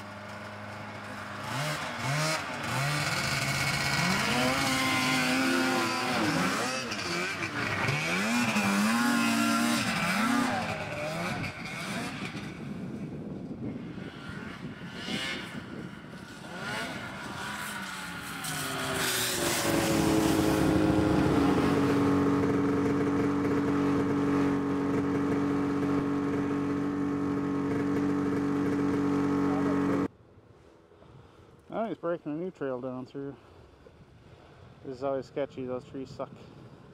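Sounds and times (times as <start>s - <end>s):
snowmobile engine revving: 0.0s - 30.1s.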